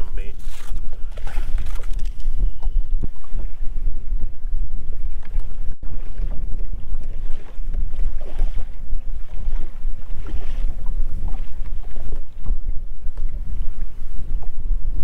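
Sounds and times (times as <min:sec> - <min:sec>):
water lapping at boat hull: 0:00.0 - 0:15.0
wind buffeting microphone: 0:00.0 - 0:15.0.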